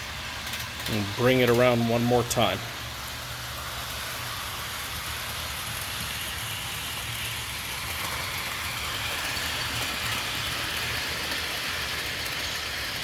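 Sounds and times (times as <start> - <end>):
model train motor whir: 0.0 - 13.0
wheels rumbling on rail: 0.0 - 13.0.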